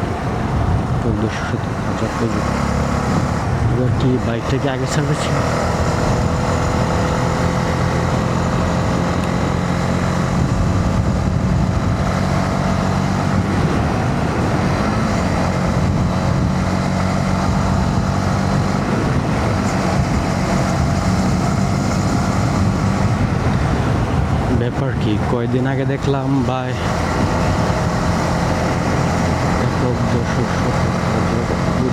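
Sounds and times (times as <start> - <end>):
rushing riding noise: 0.0 - 31.9
motorcycle engine running: 1.6 - 31.9.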